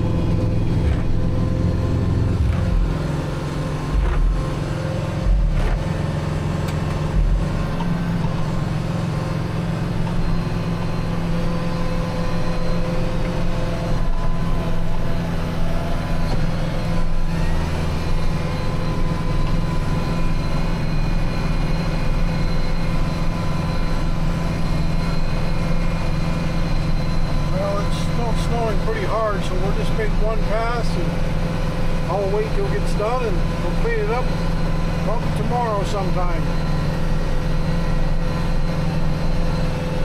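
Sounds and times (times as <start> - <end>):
snowblower high whine: 0.0 - 40.0
tractor diesel engine under load: 0.0 - 40.0.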